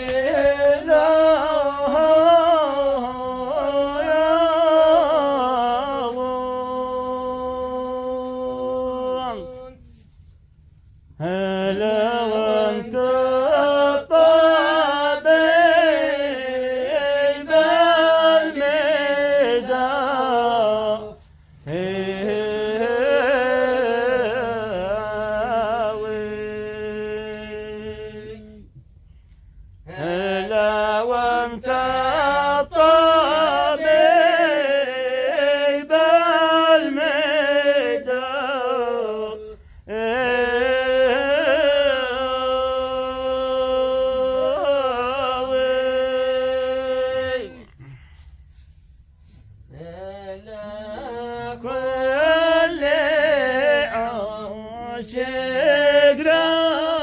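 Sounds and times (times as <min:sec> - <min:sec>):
person singing unaccompanied: 0:00.0 - 0:10.2, 0:11.2 - 0:28.8, 0:29.8 - 0:48.1, 0:49.7 - 0:57.0.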